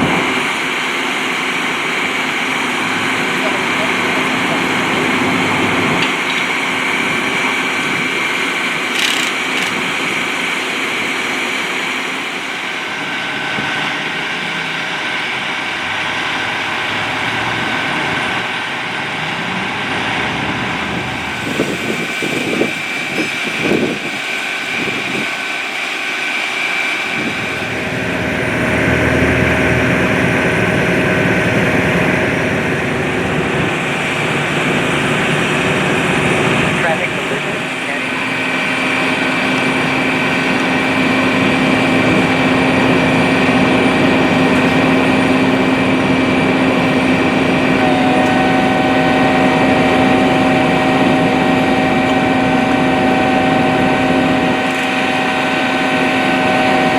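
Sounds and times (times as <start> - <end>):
vehicle engines idling: 0.0 - 56.9.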